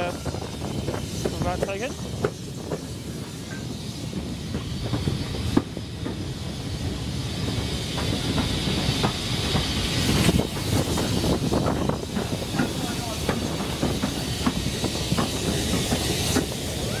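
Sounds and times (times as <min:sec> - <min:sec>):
steam hissing: 0:00.0 - 0:17.0
train rumble: 0:00.0 - 0:17.0
wheels clicking over rail joints: 0:00.0 - 0:17.0.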